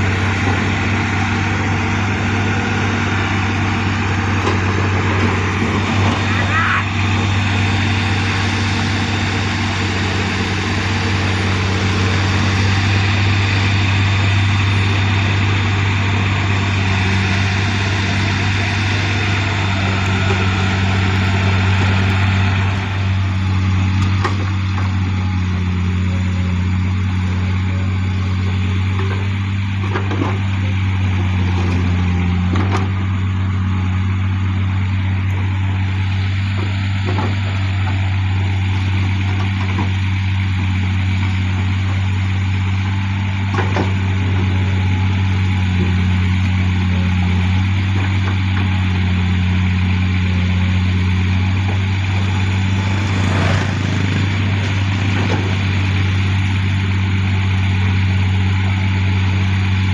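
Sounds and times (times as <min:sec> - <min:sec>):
diesel machinery humming: 0:00.0 - 0:59.9.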